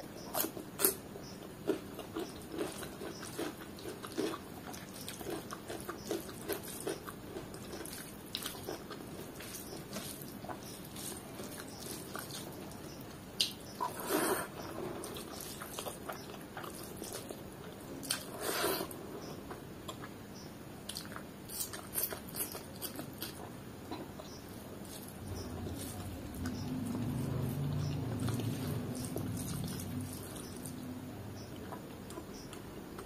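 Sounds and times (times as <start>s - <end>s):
chewing and mouth smacking: 1.6s - 18.6s, 19.4s - 20.2s, 20.8s - 30.9s.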